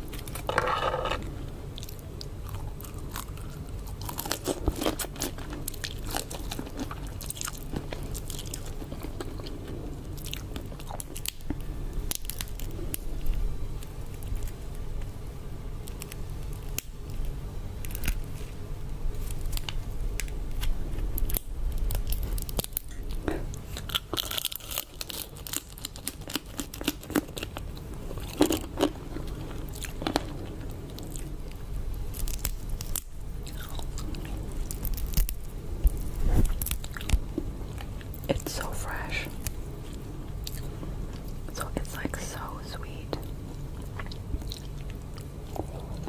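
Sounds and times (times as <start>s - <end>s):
chewing and crunching: 0.0s - 15.1s, 15.8s - 46.0s
low hum: 0.0s - 46.0s.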